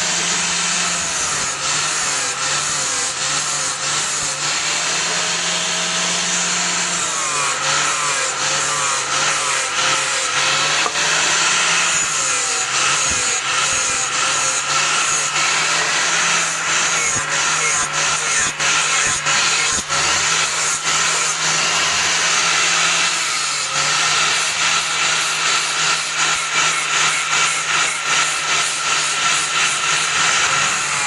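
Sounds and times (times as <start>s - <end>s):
power grinder on steel: 0.0s - 31.0s.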